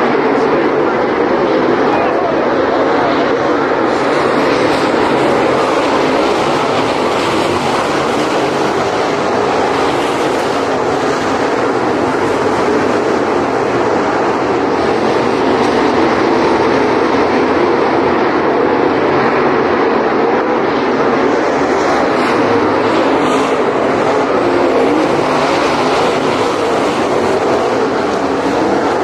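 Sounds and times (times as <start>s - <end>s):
race car engines droning: 0.0s - 29.0s.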